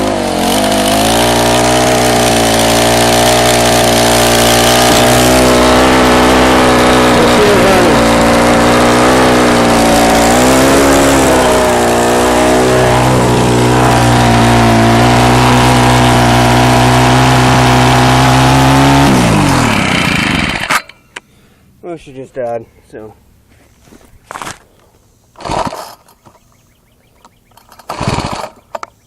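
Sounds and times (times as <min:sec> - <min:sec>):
string trimmer engine running: 0:00.0 - 0:20.9, 0:25.4 - 0:26.4, 0:27.6 - 0:29.0.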